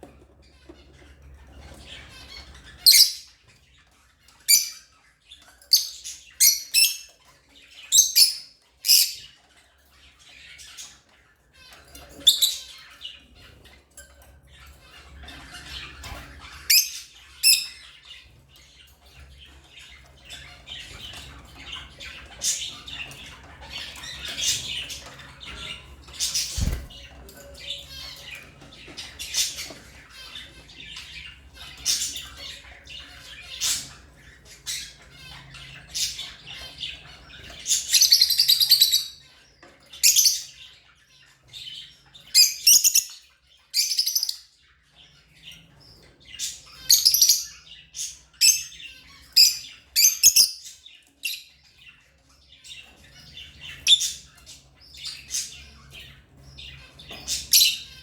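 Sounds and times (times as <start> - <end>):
lovebirds chirping: 0.8 - 3.5, 4.2 - 13.6, 14.9 - 40.6, 41.5 - 44.8, 45.4 - 51.6, 52.8 - 58.0.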